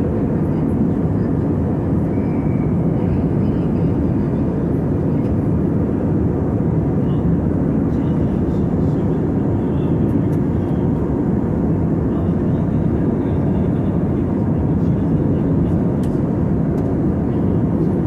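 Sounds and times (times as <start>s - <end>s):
aircraft cabin engine drone: 0.0s - 18.0s.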